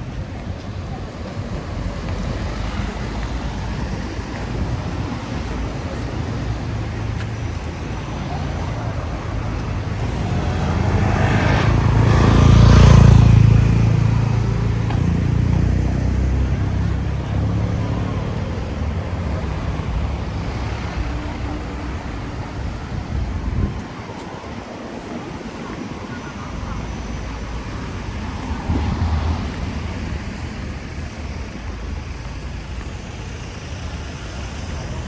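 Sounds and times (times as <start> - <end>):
street traffic rumble: 0.0 - 35.0
vehicle passing close by: 0.9 - 35.0.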